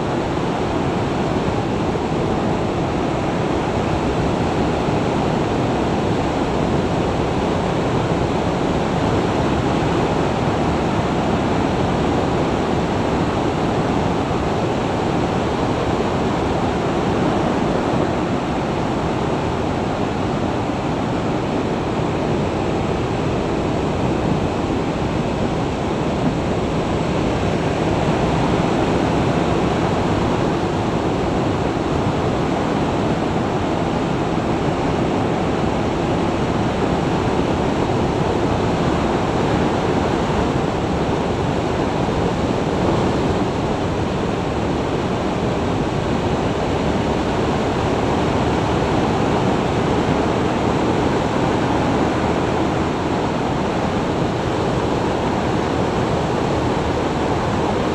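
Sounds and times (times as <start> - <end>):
road noise: 0.0 - 57.9
wind rushing on microphone: 0.0 - 57.9.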